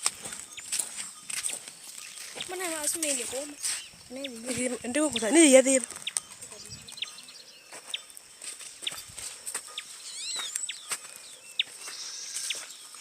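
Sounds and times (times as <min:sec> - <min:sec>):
birds chirping: 0:00.0 - 0:13.0
birds twittering: 0:00.0 - 0:13.0.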